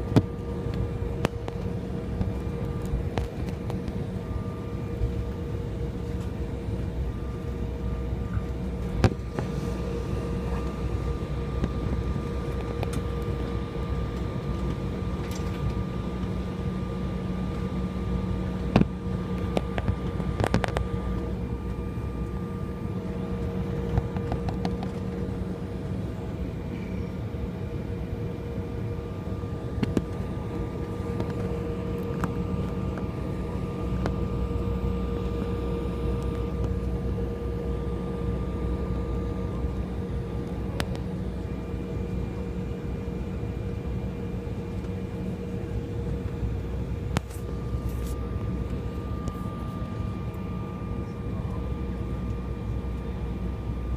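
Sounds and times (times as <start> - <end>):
jet cabin hum: 0.0 - 53.9.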